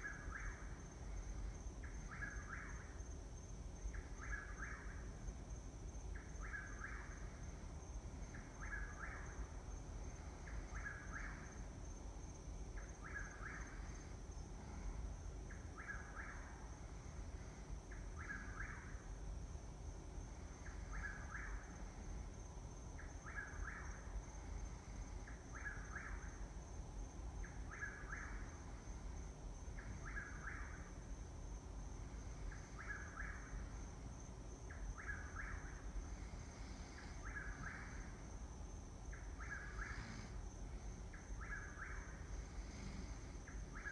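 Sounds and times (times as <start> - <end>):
high insect trill: 0.0 - 43.9.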